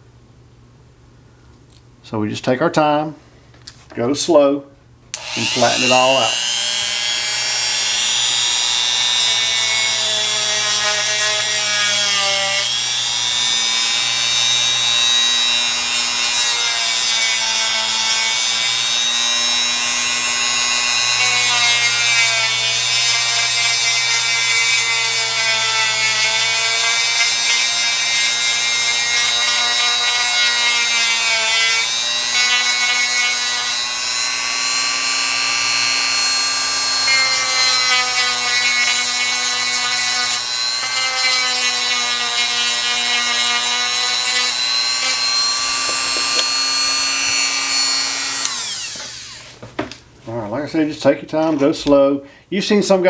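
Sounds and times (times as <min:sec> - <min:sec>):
rotary tool grinding: 0:05.2 - 0:49.6.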